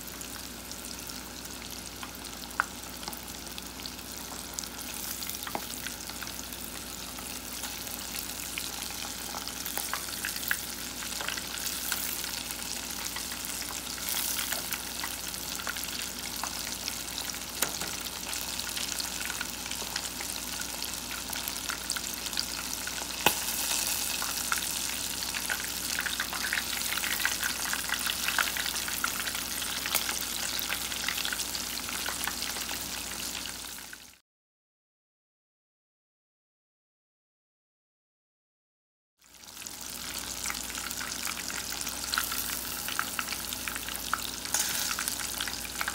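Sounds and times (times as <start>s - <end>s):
fish deep-frying in fat: 0.0s - 34.2s, 39.2s - 45.9s.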